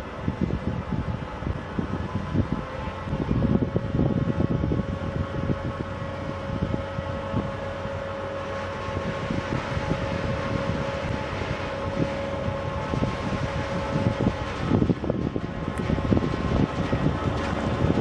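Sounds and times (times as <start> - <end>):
diesel locomotive engine rumble: 0.0 - 18.0
steady whine: 0.0 - 18.0.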